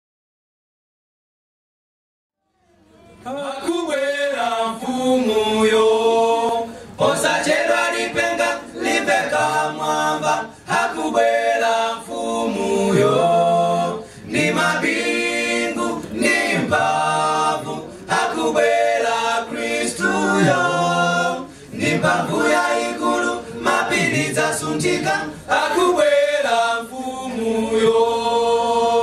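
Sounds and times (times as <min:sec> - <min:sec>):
male vocal group singing harmony: 0:03.2 - 0:29.0.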